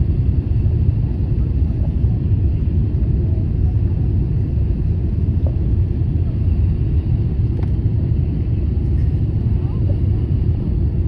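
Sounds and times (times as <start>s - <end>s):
airliner low rumble: 0.0s - 11.0s.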